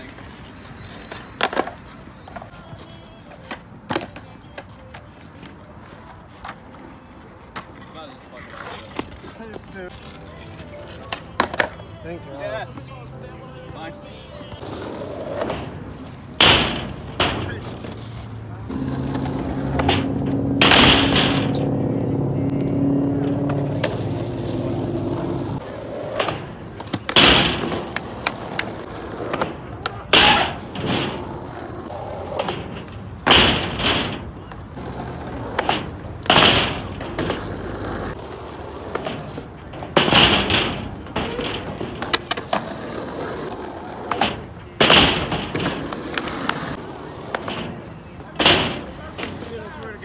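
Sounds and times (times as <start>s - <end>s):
skateboard clacking on ground: 0.0s - 12.0s, 14.5s - 21.8s, 22.6s - 50.0s
skateboard wheels rolling on pavement: 0.0s - 50.0s.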